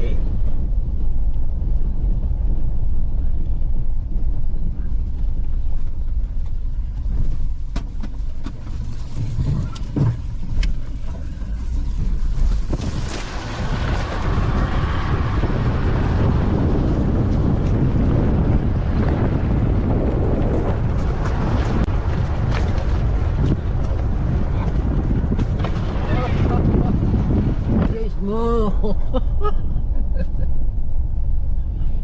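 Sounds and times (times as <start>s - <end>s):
vehicle engine rumbling: 0.0s - 32.0s
wind buffeting microphone: 0.0s - 32.0s.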